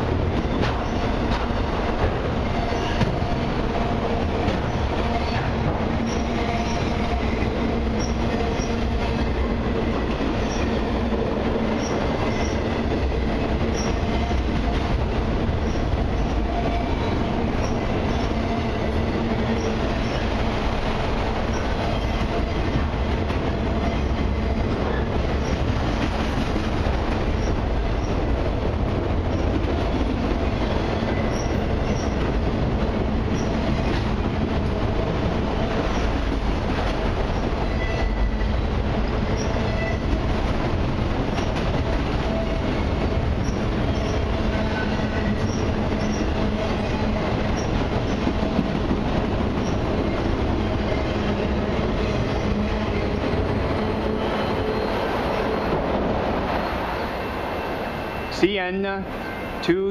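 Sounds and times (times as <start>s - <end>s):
freight cars rumbling on rails: 0.0s - 59.9s.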